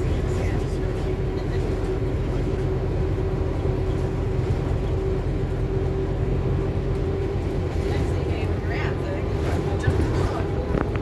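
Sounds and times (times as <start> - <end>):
bus engine and road rumble: 0.0 - 11.0
constant whine: 0.0 - 11.0.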